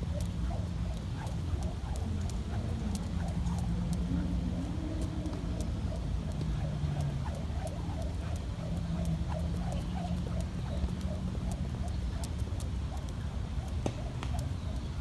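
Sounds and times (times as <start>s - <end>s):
jump rope clicking on pavement: 0.0s - 15.0s
low outdoor rumble: 0.0s - 15.0s.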